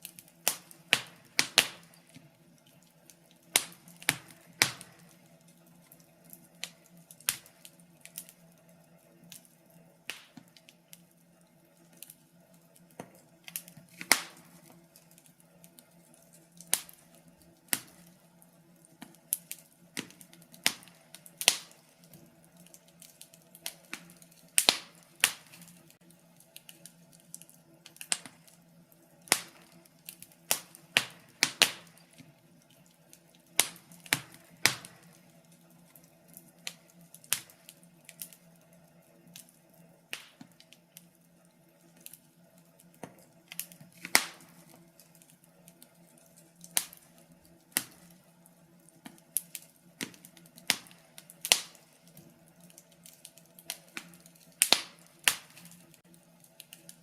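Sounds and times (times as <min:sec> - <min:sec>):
faint steady low hum: 0:00.0 - 0:57.0
wood fire crackling: 0:00.0 - 0:57.0.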